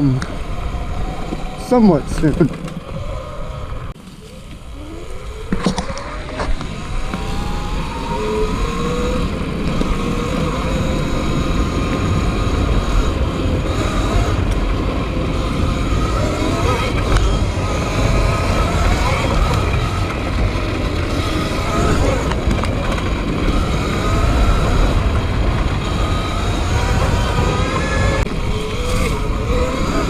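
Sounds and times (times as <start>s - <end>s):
electric bike motor whining: 0.0s - 30.0s
low rumble of riding: 0.0s - 30.0s.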